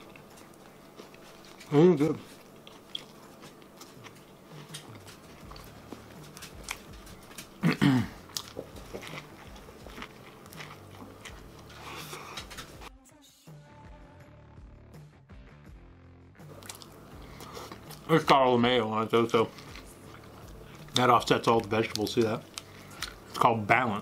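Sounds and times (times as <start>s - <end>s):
man chewing sandwich: 0.0s - 12.9s, 16.5s - 23.4s.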